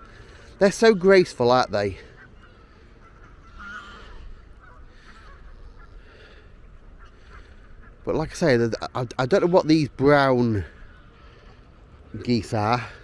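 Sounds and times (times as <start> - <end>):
geese honking faintly: 0.0 - 13.0.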